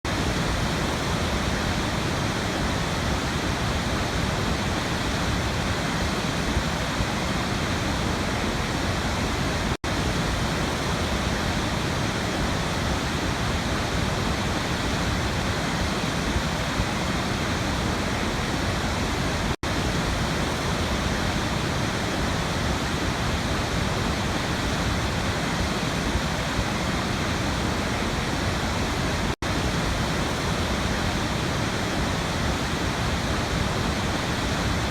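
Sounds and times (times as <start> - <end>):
waterfall roaring: 0.1 - 34.9.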